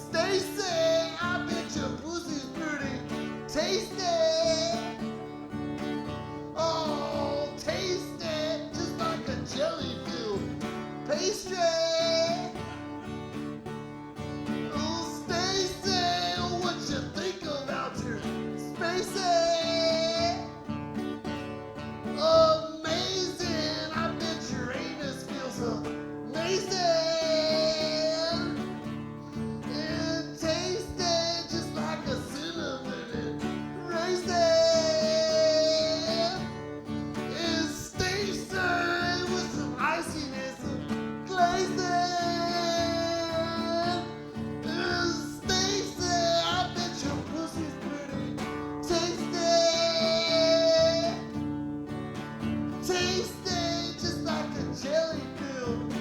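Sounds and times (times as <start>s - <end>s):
guitar accompaniment: 0.0s - 56.0s
person singing with vibrato: 0.0s - 56.0s.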